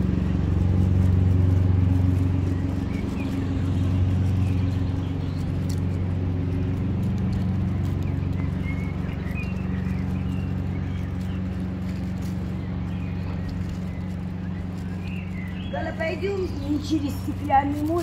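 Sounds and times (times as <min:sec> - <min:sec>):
engine droning: 0:00.0 - 0:18.0.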